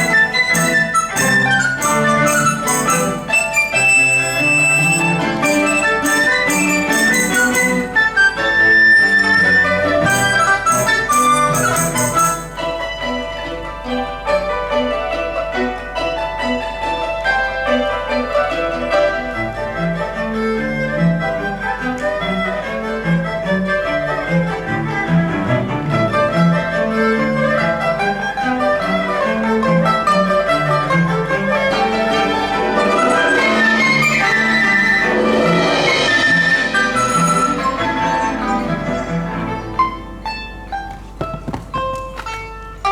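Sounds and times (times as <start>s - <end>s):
chamber ensemble with bowed strings: 0.0s - 42.9s.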